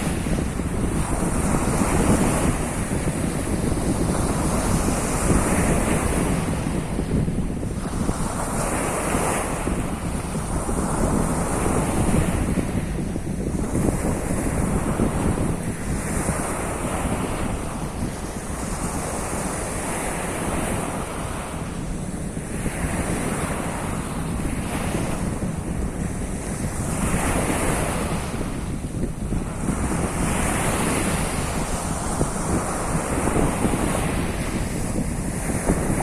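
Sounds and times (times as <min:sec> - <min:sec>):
waves breaking on shore: 0:00.0 - 0:36.0
wind buffeting microphone: 0:00.0 - 0:36.0.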